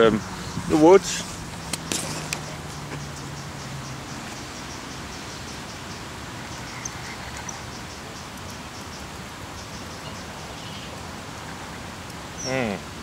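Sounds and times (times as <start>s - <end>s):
insects chirping: 0.0s - 12.5s
steady outdoor hiss: 0.0s - 13.0s.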